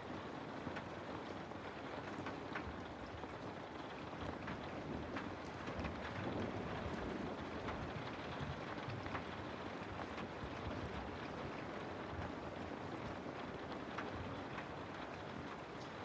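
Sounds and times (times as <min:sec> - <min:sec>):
raindrops ticking close by: 0:00.1 - 0:16.0.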